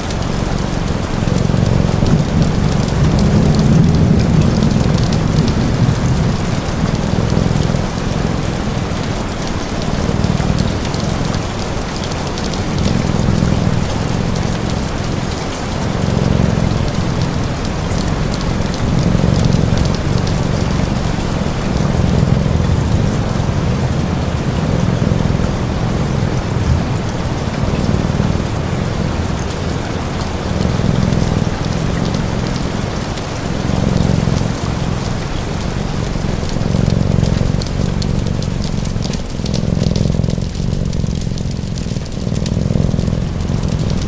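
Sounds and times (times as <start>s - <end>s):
cat purring: 0.0s - 44.0s
rain pattering: 0.0s - 44.0s.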